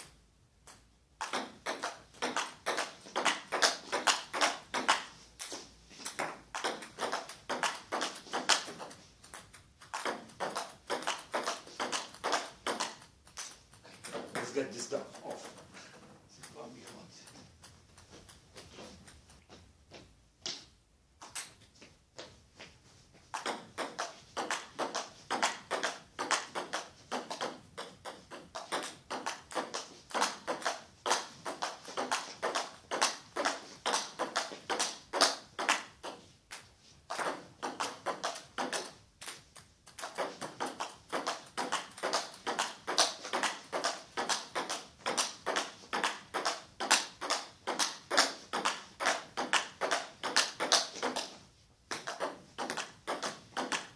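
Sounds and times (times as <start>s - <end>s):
table tennis ball clicking: 0.6s - 15.6s, 23.3s - 53.9s.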